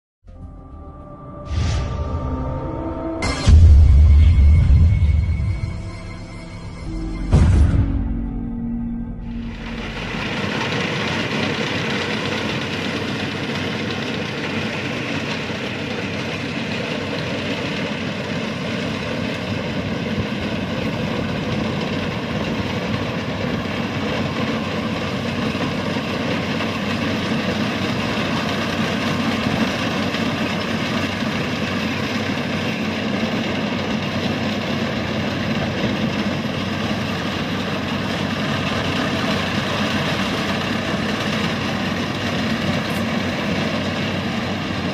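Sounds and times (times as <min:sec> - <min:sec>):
combine harvester engine droning: 0:00.3 - 0:44.9.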